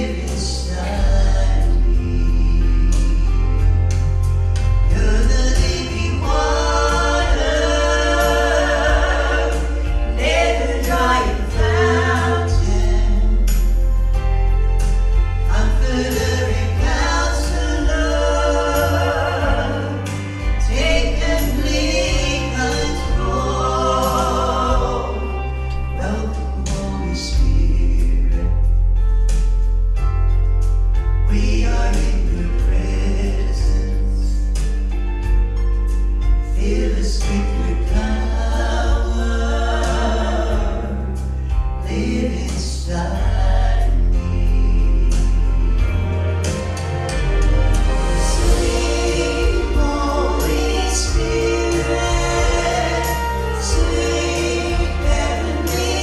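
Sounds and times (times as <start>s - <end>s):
gospel group singing in harmony: 0.0s - 29.3s, 30.0s - 56.0s
instrumental accompaniment with beat: 2.3s - 42.6s, 43.2s - 56.0s.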